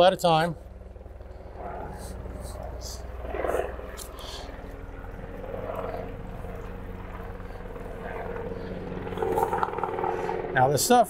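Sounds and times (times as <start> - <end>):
low hum of motor equipment: 0.0 - 11.0.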